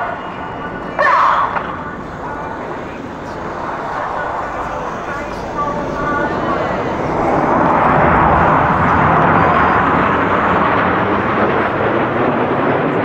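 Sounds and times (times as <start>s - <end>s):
jet roar overhead: 0.0s - 13.0s.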